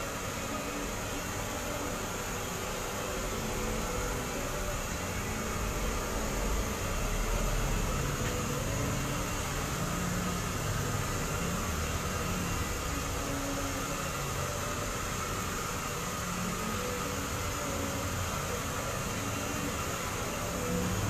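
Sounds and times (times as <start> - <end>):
fan noise: 0.0 - 21.0.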